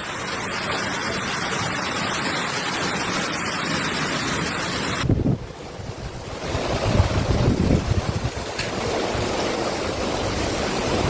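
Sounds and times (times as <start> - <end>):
storm rushing hiss: 0.2 - 11.0
wind buffeting microphone: 0.6 - 11.0.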